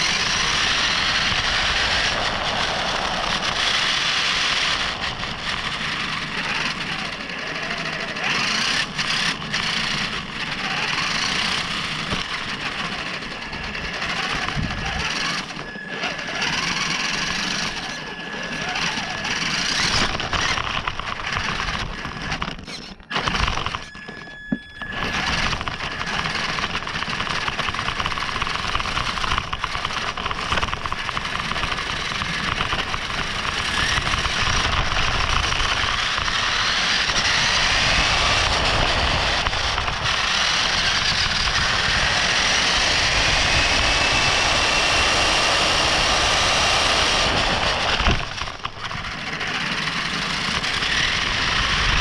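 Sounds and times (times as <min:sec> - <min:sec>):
drivetrain whine: 0:00.0 - 0:52.0.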